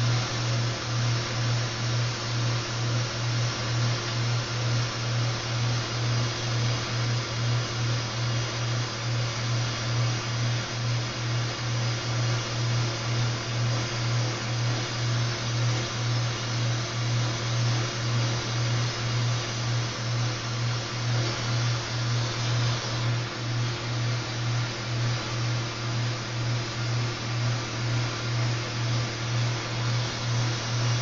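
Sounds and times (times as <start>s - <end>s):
low pulsing hum: 0.0s - 31.0s.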